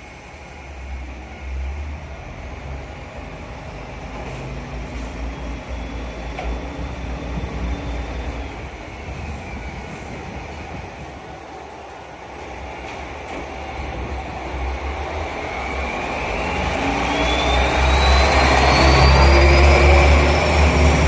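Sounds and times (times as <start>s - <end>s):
diesel railcar engine and rail rumble: 0.0s - 21.0s.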